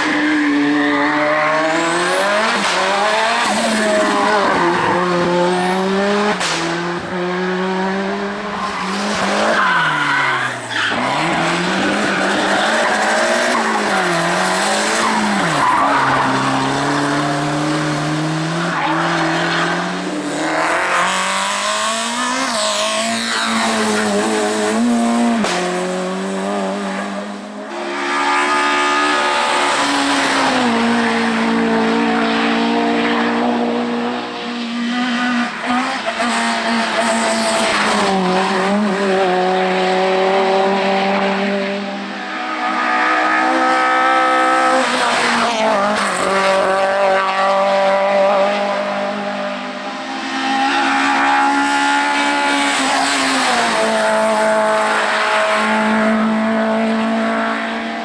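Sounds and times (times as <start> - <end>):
race car engines at full throttle: 0.0 - 58.0.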